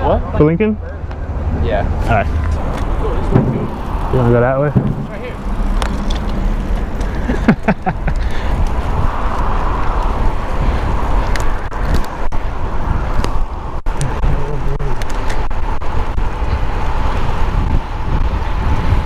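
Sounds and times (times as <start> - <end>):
road traffic: 0.0 - 19.0
wind rushing over microphone: 0.0 - 19.0.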